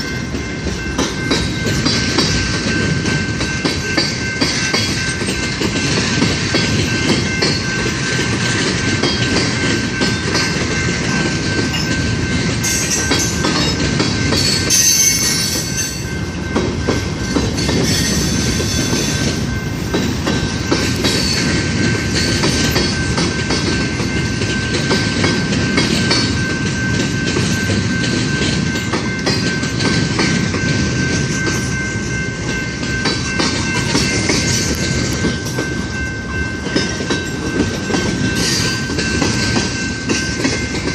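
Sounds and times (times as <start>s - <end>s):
train wheels clacking on rail joints: 0.0s - 40.9s.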